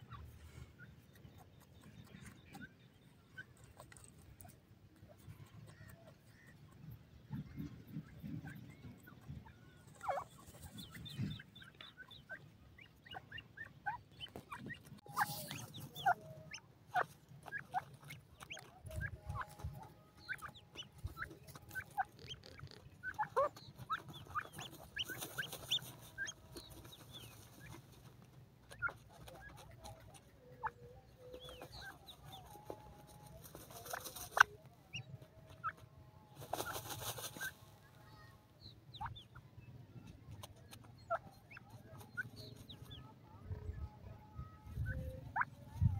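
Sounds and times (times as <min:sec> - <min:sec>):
scratching in dry soil: 0:00.0 - 0:37.9, 0:40.1 - 0:43.3
birds clucking and chirping: 0:00.0 - 0:45.9.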